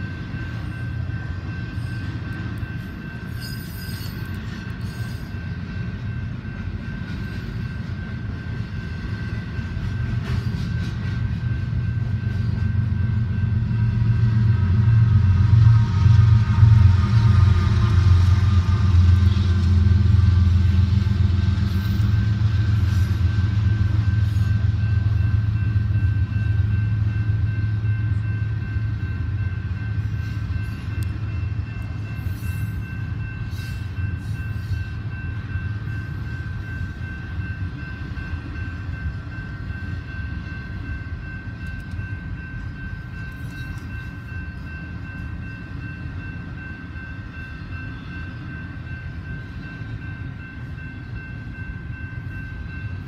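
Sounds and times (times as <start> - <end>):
freight train rumbling: 0.0 - 53.0.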